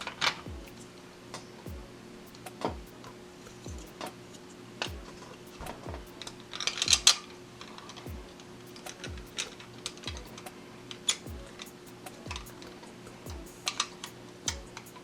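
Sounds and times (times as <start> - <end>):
soft background music with beat: 0.3 - 1.0, 1.7 - 4.2, 4.8 - 10.6, 11.2 - 15.0.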